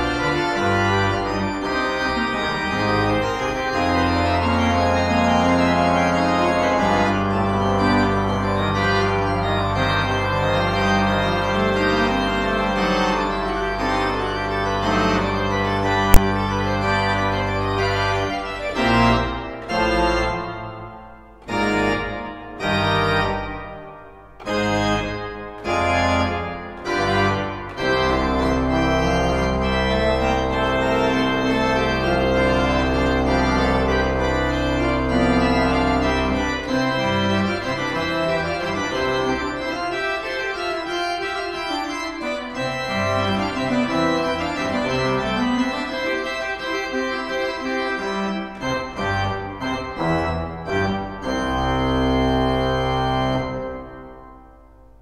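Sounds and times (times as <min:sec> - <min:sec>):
pipe organ playing chords: 0:00.0 - 0:55.0.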